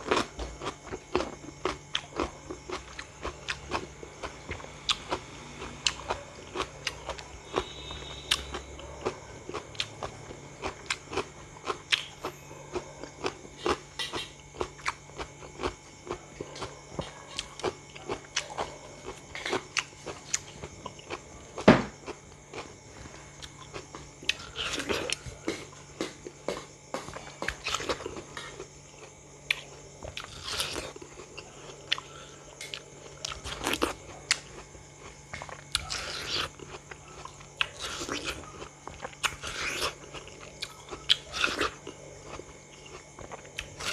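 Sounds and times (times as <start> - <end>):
crunchy fruit bites and chewing: 0.0 - 43.9.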